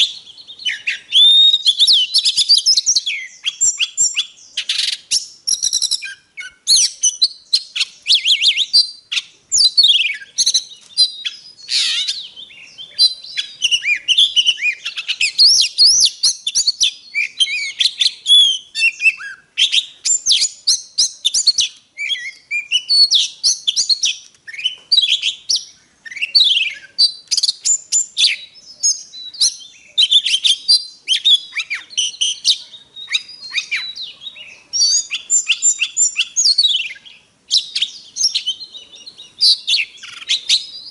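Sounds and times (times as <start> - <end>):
bird singing whistles and clicks: 0.0 - 40.9.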